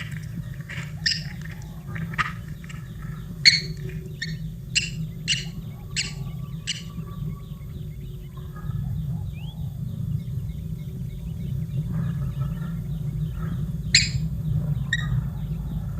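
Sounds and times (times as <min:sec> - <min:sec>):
baby birds chirping: 0:00.0 - 0:15.9
steady low hum: 0:00.0 - 0:15.9.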